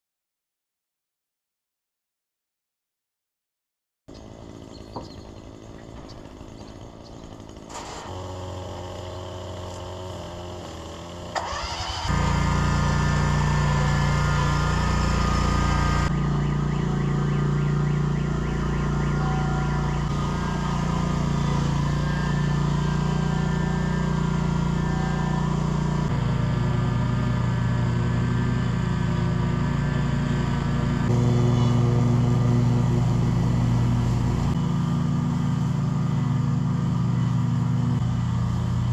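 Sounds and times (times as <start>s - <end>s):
mower engine starting and running: 4.1s - 38.9s.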